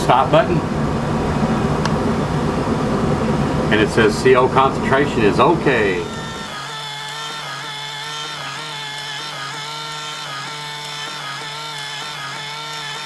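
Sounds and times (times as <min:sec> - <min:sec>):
small motor whining: 0:00.6 - 0:13.0.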